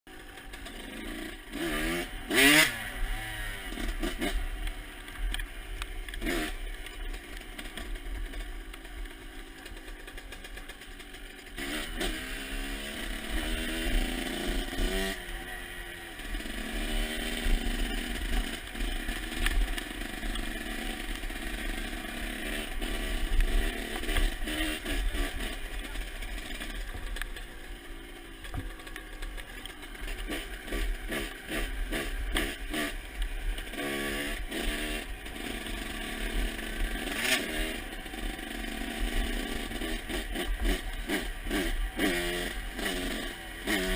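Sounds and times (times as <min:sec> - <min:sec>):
motocross bike engine revving: 0:00.1 - 0:43.9.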